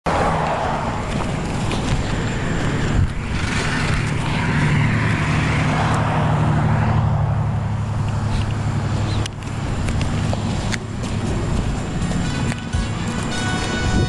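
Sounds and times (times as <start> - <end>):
street noise: 0.0 - 14.0
vehicle engine humming: 0.0 - 14.0.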